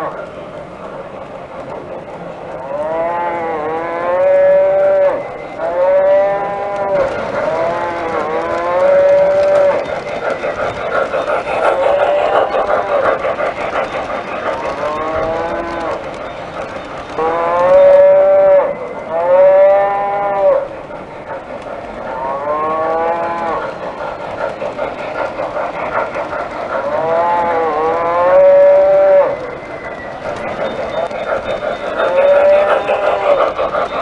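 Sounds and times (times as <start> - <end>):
model trains rumbling on track: 0.0 - 34.0.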